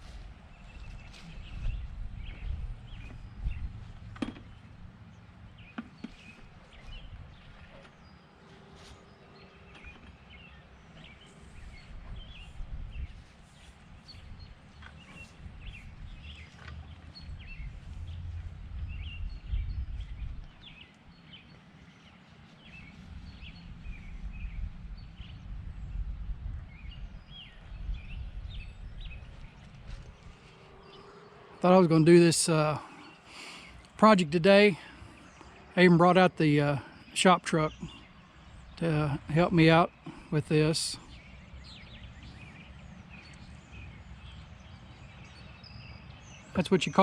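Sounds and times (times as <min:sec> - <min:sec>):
wild birds chirping and singing: 0:00.0 - 0:47.0.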